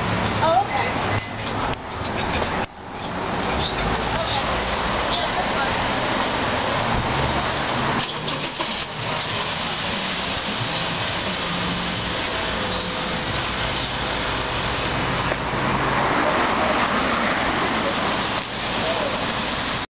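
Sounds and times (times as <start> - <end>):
steady rushing street noise: 0.0 - 19.9.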